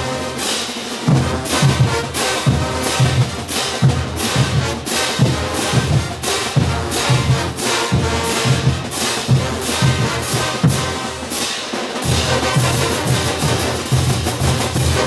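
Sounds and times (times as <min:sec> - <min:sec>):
bass and snare drums: 0:00.0 - 0:15.0
brass section playing: 0:00.0 - 0:15.0.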